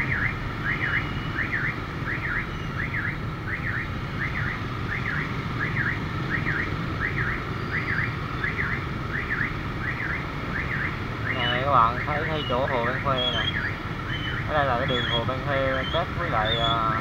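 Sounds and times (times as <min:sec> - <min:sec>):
electronic alarm warbling chirp: 0:00.0 - 0:17.0
motorbikes idling: 0:03.0 - 0:17.0.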